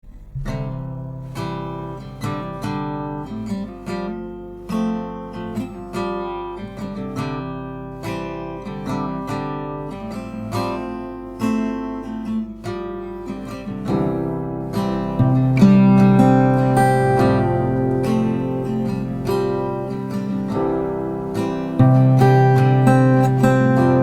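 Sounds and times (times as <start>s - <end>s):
acoustic guitar strummed chords: 0.0s - 24.0s.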